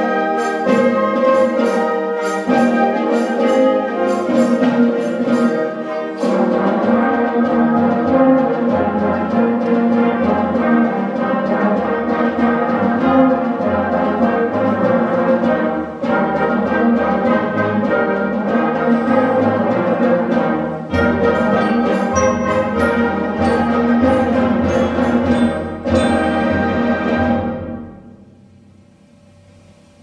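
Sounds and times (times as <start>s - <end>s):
wind band playing dance music: 0.0s - 28.2s.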